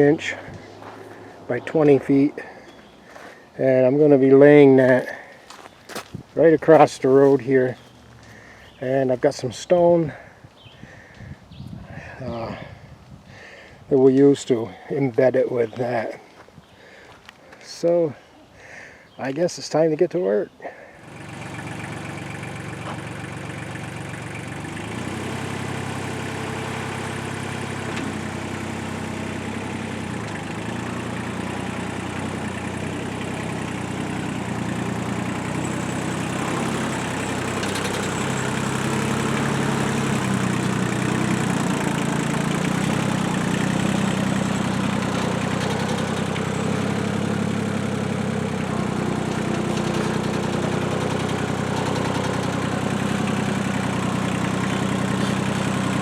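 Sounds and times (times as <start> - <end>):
heavy equipment engine running: 0.0 - 5.8, 6.4 - 11.2, 21.0 - 56.0.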